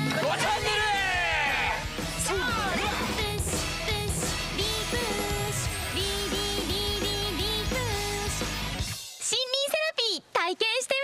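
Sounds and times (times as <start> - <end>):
upbeat jingle music: 0.0 - 9.2.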